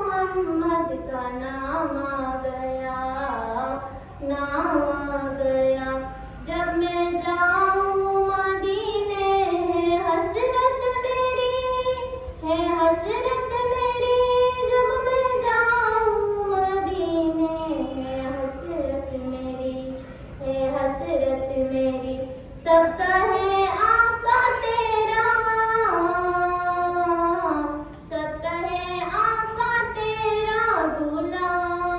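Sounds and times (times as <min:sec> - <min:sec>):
girl singing unaccompanied: 0:00.0 - 0:31.9.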